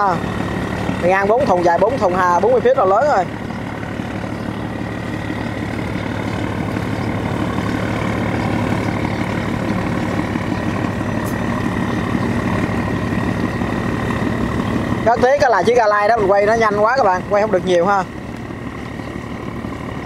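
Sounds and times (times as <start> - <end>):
barge diesel engine humming: 0.0 - 20.0.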